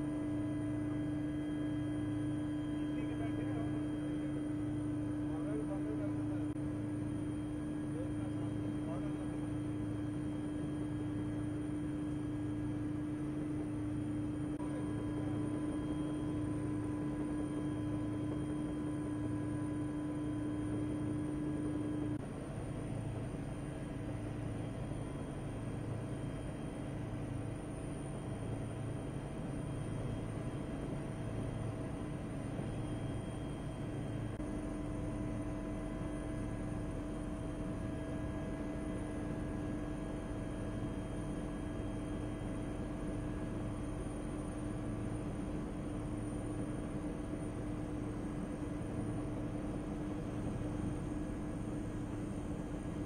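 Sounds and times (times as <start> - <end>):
aircraft cabin drone: 0.0 - 53.0.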